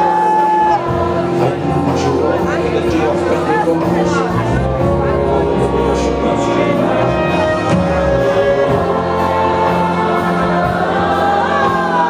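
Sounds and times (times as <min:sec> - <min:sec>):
gospel choir singing: 0:00.0 - 0:12.0
low steady accompaniment: 0:00.1 - 0:12.0.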